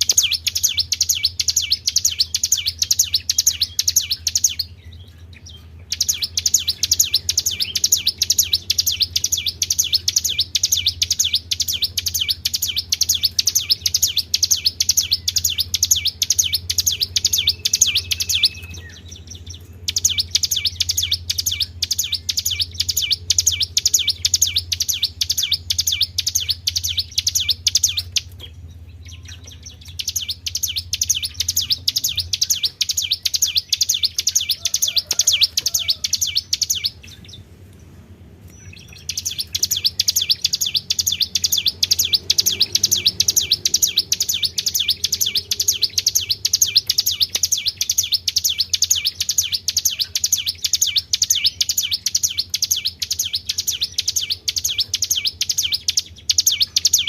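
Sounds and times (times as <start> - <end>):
faint low hum: 0.0 - 57.0
songbird chirping rapidly: 0.0 - 57.0.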